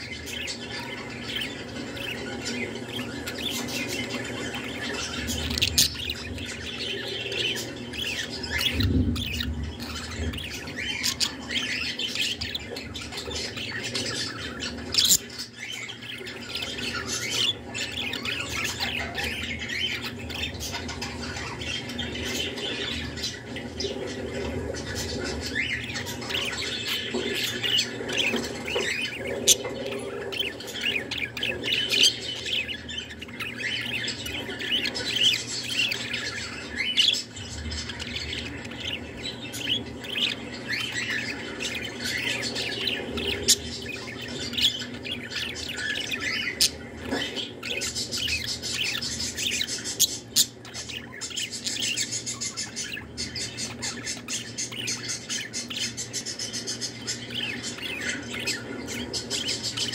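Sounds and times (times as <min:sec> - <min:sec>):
budgerigar warbling and chirping: 0:00.0 - 0:59.9.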